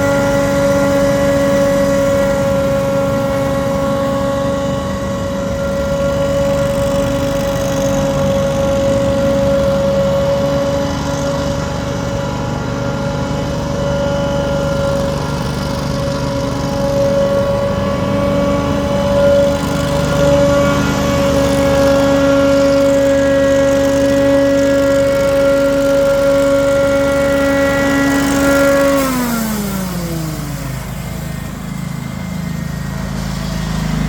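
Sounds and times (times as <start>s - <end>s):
ride-on debris blower engine running: 0.0s - 34.0s
steady whine: 0.0s - 34.0s.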